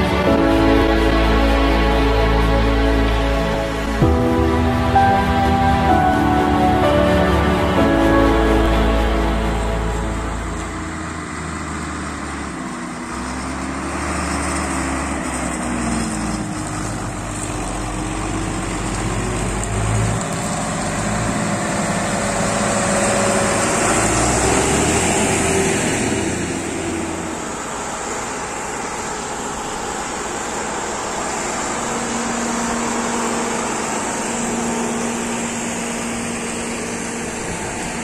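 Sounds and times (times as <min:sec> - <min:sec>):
tractor diesel engines running: 0:00.0 - 0:38.0.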